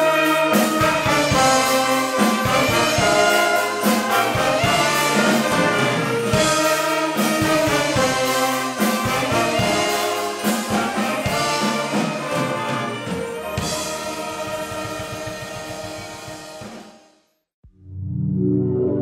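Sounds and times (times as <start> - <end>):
brass band playing: 0.0 - 17.0
drum hits and cymbals: 0.0 - 17.2.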